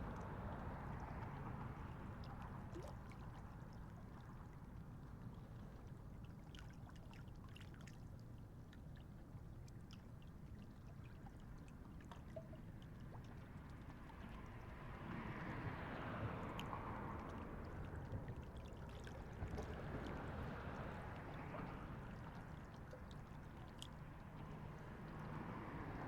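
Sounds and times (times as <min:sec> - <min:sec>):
water lapping and trickling: 0:00.0 - 0:26.0.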